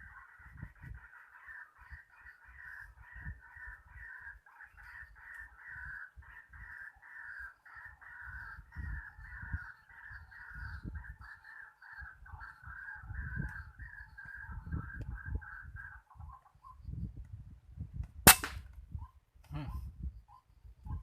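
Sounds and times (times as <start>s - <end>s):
birds croaking calls: 0.0s - 17.1s.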